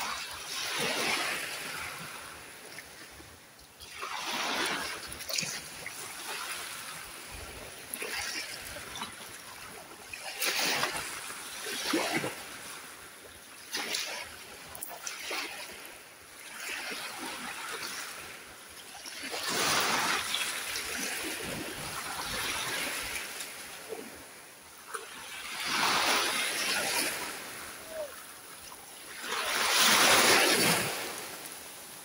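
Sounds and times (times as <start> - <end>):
sea waves breaking on beach: 0.0 - 32.0.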